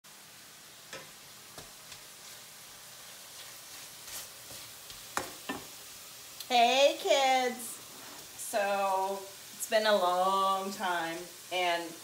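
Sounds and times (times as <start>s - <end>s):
meat sizzling in a skillet: 0.1s - 12.0s.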